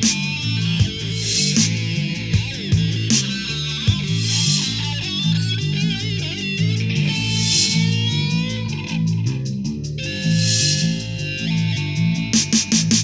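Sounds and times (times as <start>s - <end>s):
electric guitar lead: 0.0s - 12.6s
bass and drums backing track: 0.0s - 13.0s.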